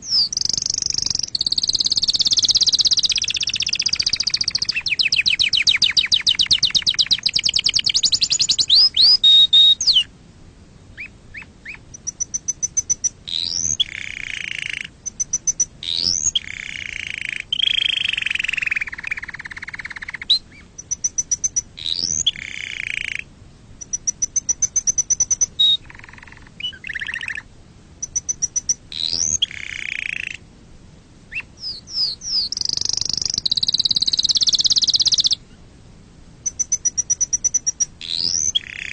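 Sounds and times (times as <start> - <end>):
canary singing trills: 0.0 - 10.1, 11.0 - 30.4, 31.3 - 35.6, 36.4 - 38.9.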